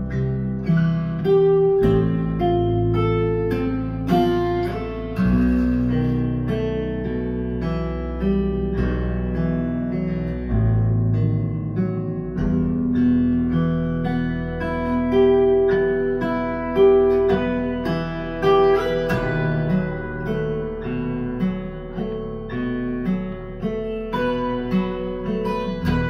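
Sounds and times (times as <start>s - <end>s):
acoustic guitar music over speakers: 0.0s - 26.0s.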